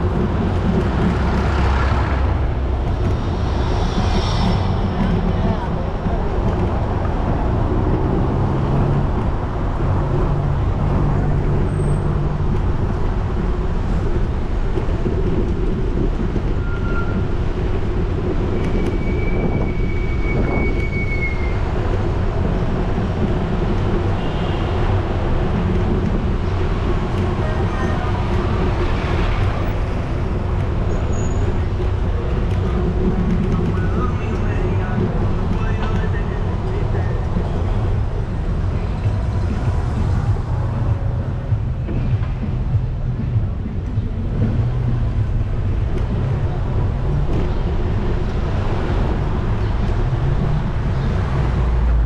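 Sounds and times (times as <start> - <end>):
cars passing close by: 0.0 - 16.2, 21.5 - 52.0
steady low traffic rumble: 0.0 - 52.0.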